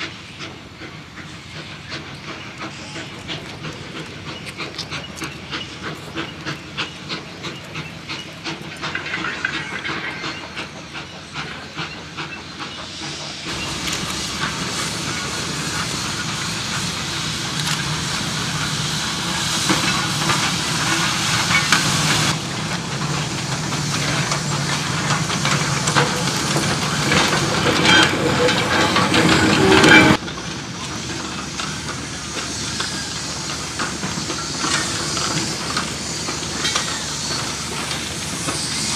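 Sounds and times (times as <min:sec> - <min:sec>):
loud hiss of steam: 0:00.0 - 0:38.9
steam locomotive beats: 0:00.0 - 0:38.9.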